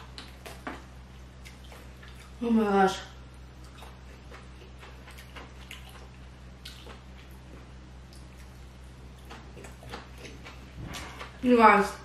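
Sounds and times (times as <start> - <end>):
wet chewing: 0.0 - 2.4, 3.4 - 11.4.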